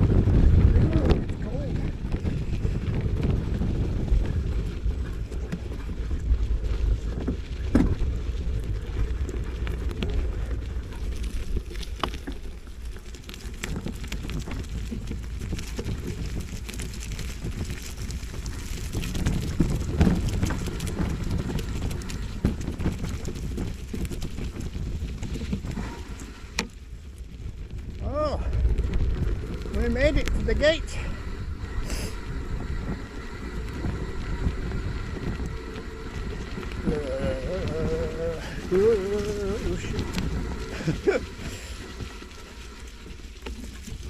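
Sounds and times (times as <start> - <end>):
wind buffeting the microphone: 0.0 - 44.0.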